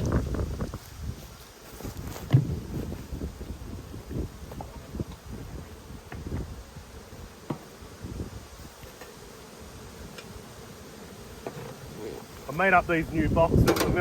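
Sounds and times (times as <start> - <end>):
bees buzzing: 0.1 - 14.0.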